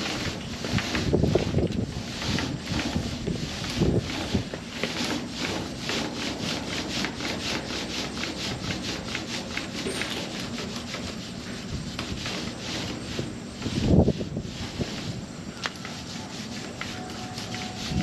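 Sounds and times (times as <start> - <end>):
hand tool rubbing car panel: 0.0 - 18.0.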